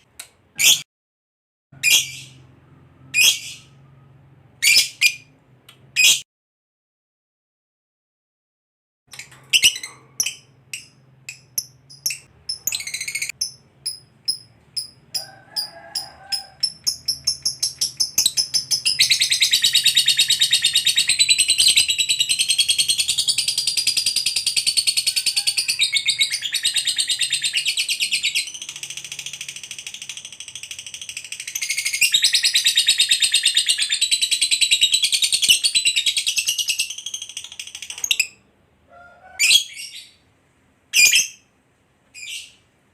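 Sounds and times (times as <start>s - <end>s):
lovebird chirping and trilling: 0.6s - 0.8s, 1.8s - 3.9s, 4.6s - 6.2s, 9.1s - 38.4s, 39.1s - 40.2s, 40.9s - 41.5s, 42.2s - 42.6s.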